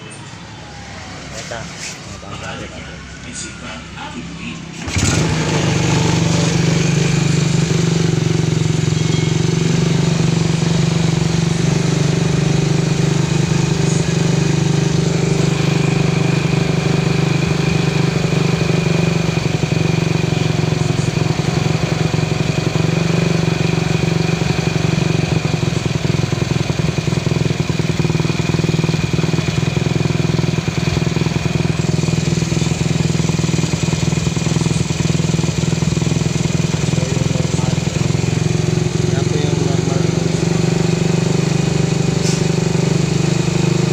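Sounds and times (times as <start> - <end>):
motorcycle engine idling: 2.0 - 43.9.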